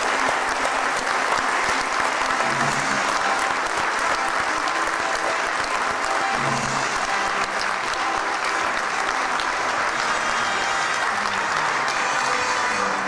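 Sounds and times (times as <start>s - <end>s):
people applauding: 0.0s - 13.0s.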